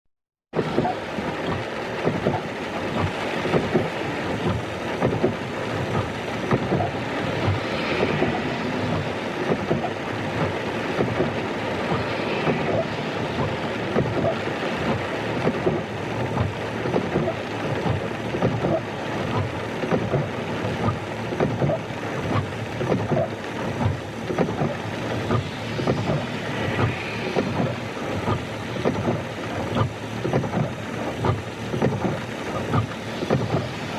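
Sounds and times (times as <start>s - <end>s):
rain on windshield: 0.6s - 33.9s
windshield wipers swishing: 0.6s - 33.9s.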